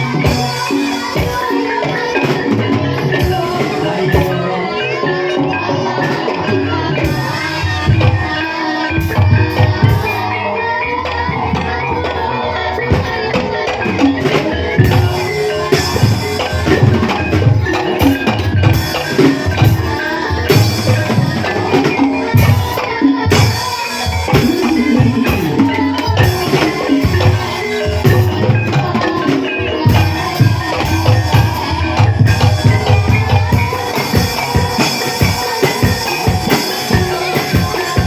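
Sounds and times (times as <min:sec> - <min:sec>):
drum strokes: 0:00.0 - 0:38.0
gamelan music: 0:00.0 - 0:38.0
mallet-struck tuned percussion: 0:00.0 - 0:38.0.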